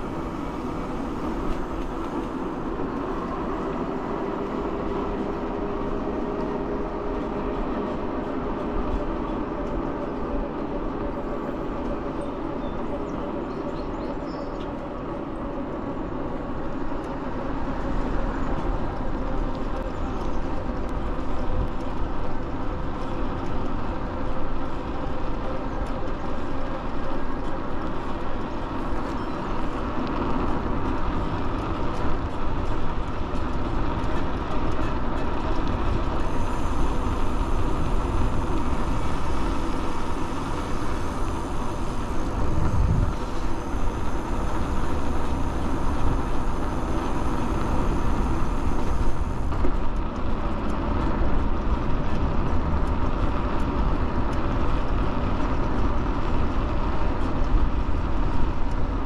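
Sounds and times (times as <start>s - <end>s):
bike tyres on pavement: 0.0s - 59.0s
wind rushing over microphone: 0.0s - 59.0s.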